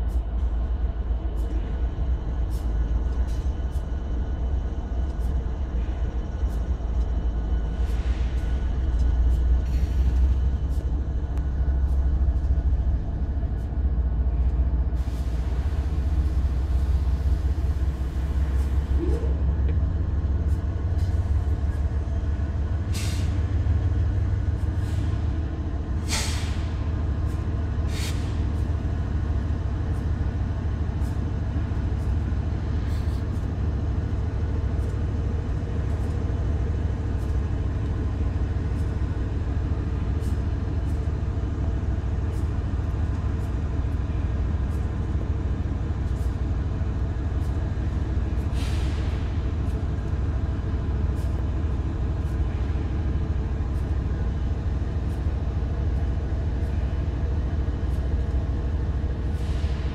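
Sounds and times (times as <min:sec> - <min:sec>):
diesel locomotive engine idling: 0:00.0 - 0:59.9.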